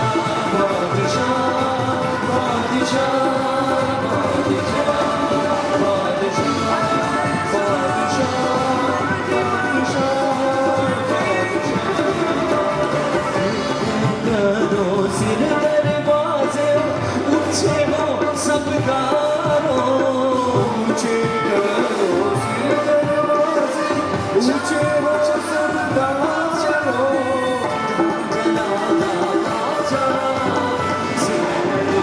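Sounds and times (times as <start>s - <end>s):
live band playing: 0.0s - 32.0s
person singing: 0.0s - 32.0s.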